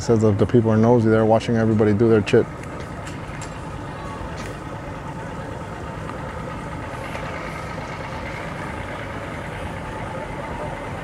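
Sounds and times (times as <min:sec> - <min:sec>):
engines idling: 0:00.0 - 0:11.0.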